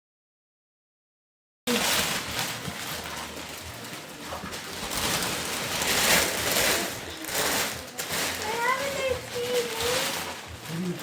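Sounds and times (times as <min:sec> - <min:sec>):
gift wrap rustling and crackling: 0:01.7 - 0:11.0.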